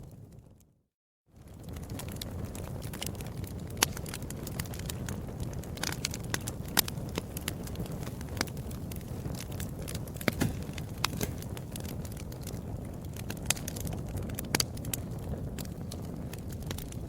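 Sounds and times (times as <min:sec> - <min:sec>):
wood fire crackling: 0:01.4 - 0:17.0.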